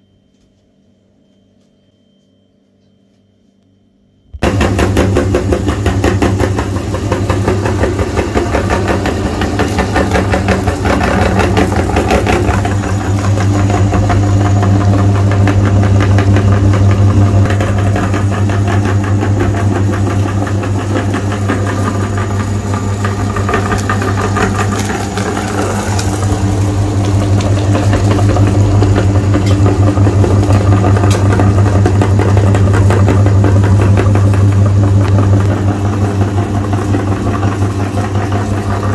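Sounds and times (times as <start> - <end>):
meat grinder humming: 4.4 - 38.9.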